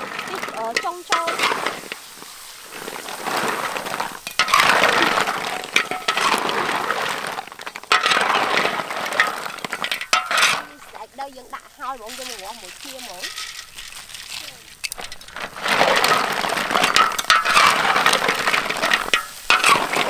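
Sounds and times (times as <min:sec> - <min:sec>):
metal spatula on wok: 0:00.0 - 0:20.0
snail shells clattering: 0:00.0 - 0:20.0.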